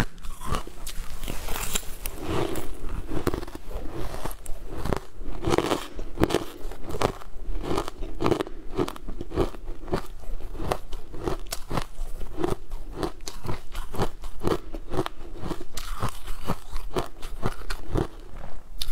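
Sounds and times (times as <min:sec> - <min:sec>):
chewing crushed ice: 0:00.0 - 0:18.9.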